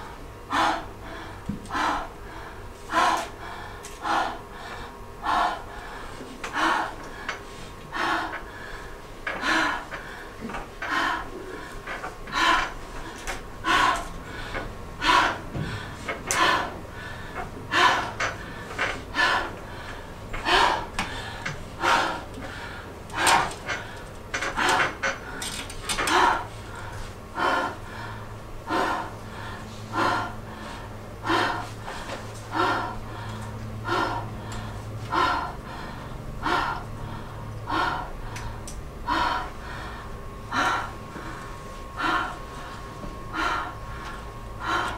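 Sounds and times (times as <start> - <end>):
low steady hum: 0.0 - 44.9
woman gasping breaths: 0.4 - 44.9.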